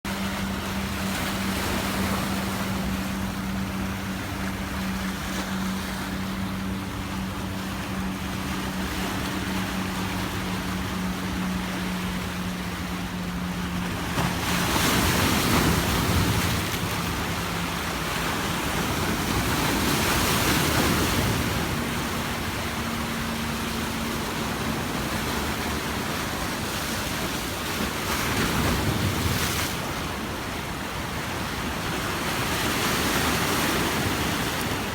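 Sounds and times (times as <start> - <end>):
sea waves washing onto beach: 0.1 - 34.9
steady low hum: 0.1 - 34.9.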